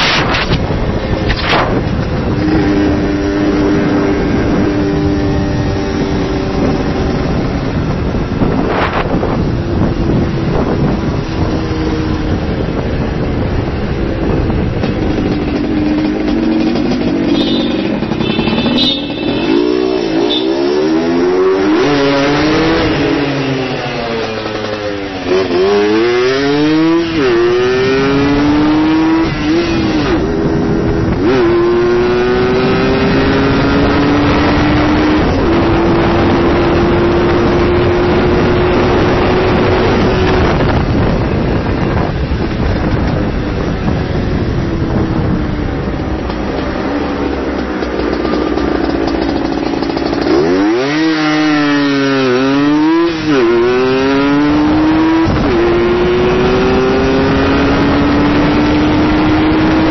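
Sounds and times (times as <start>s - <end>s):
motorcycle engine revving: 0.0s - 59.9s
wind rushing over microphone: 0.0s - 59.9s.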